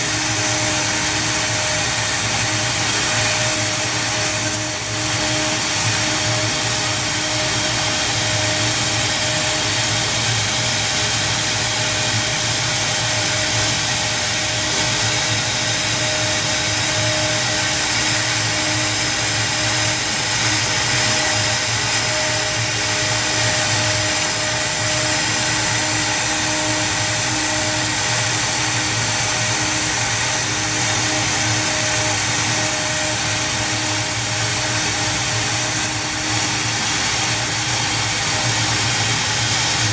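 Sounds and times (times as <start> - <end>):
bit cutting plywood hiss: 0.0 - 39.9
router spindle high whine: 0.0 - 39.9.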